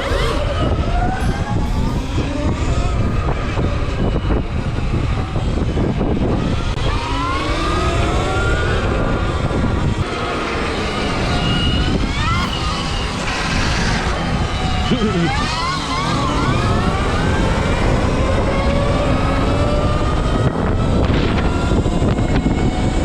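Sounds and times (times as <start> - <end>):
electric motorbike motor whining: 0.0 - 23.0
wind noise rumble: 0.0 - 23.0.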